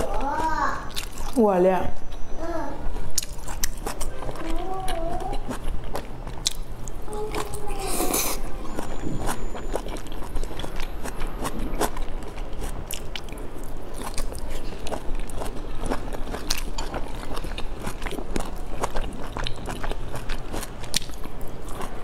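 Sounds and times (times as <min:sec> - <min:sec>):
wet chewing mouth sounds: 0:00.0 - 0:01.4, 0:03.0 - 0:22.0.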